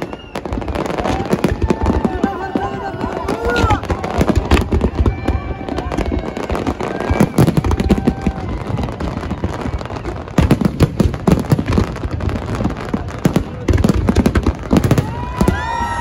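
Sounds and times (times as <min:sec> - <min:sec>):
fireworks bursting and crackling: 0:00.0 - 0:16.0
loud firework bangs: 0:00.0 - 0:16.0.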